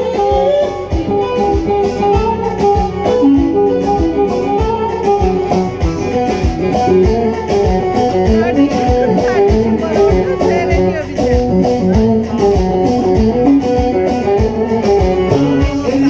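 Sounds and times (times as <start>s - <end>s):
hand drum beat: 0.0s - 16.0s
keyboard: 0.0s - 16.0s
lute picking quick melody: 0.0s - 16.0s.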